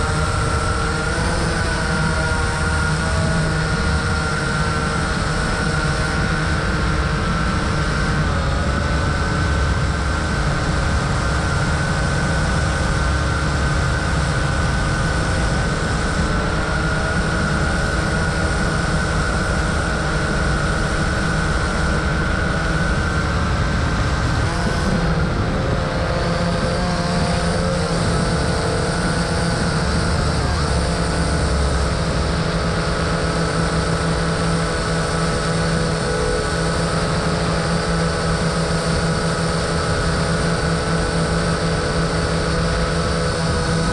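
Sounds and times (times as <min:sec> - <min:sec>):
drone propellers whining: 0:00.0 - 0:43.9.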